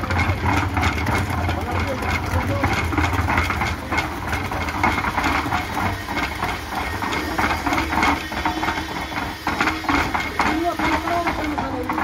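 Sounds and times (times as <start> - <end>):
concrete mixer motor hum: 0.0 - 12.0
concrete mixer rattling: 0.0 - 12.0.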